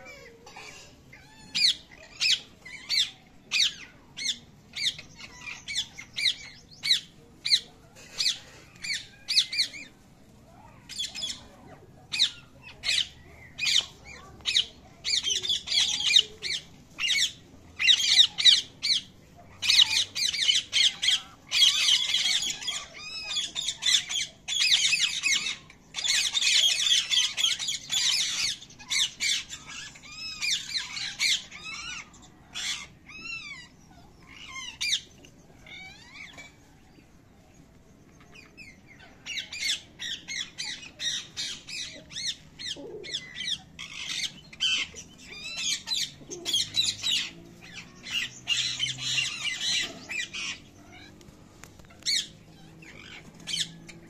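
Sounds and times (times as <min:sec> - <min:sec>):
parrot chicks squawking: 0:00.0 - 0:37.2, 0:38.1 - 0:54.0.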